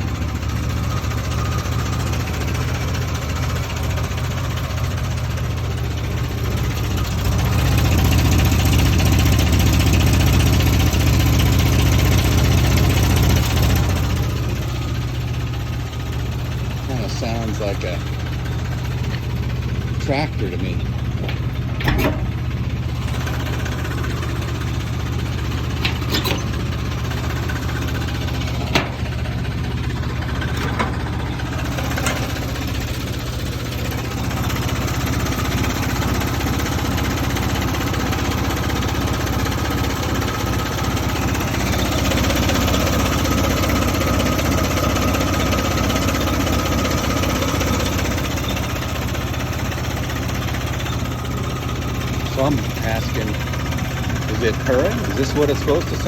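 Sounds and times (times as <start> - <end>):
clanky engine idling: 0.0 - 56.0.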